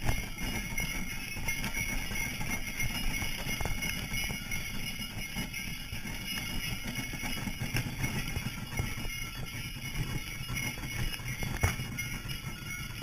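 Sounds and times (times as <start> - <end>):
sleigh bells jingling: 0.0 - 13.0
sleigh rumbling across snow: 0.0 - 13.0.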